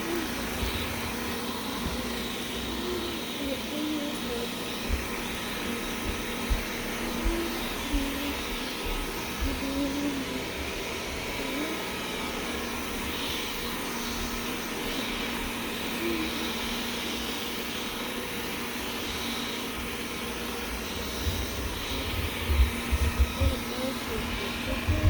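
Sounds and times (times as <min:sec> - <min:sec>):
robot vacuum cleaner whirring: 0:00.0 - 0:25.0.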